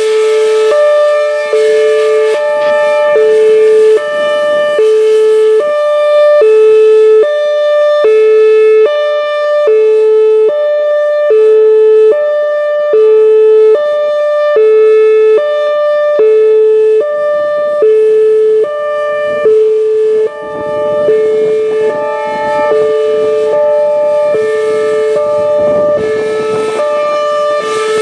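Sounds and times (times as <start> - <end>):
two-tone warning siren: 0.0 - 28.0.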